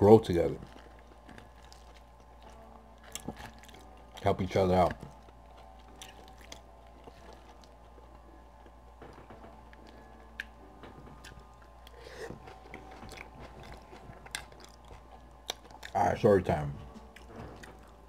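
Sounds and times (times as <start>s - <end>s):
person chewing food: 0.6s - 16.0s, 16.8s - 18.0s.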